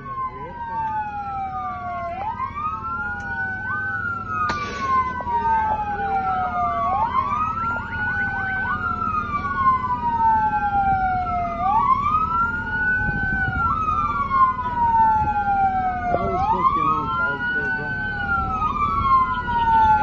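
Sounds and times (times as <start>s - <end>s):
low rumble of vehicles: 0.0s - 20.0s
police sirens wailing: 0.0s - 20.0s.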